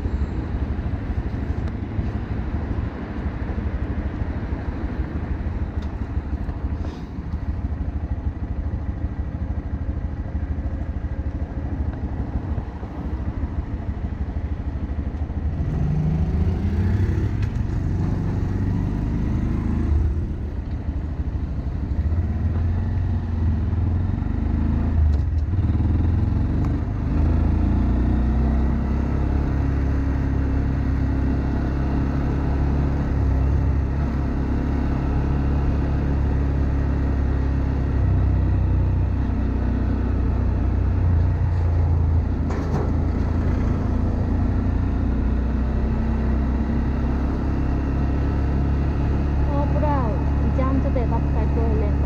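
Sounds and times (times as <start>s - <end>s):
motorcycle engine idling and revving: 0.0s - 52.0s.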